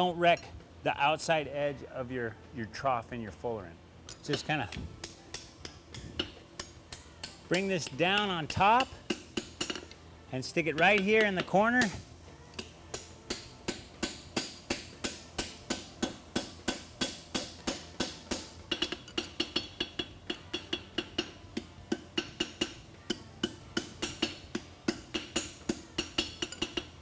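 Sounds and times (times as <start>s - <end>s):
hammer striking steel on anvil: 4.1s - 27.0s.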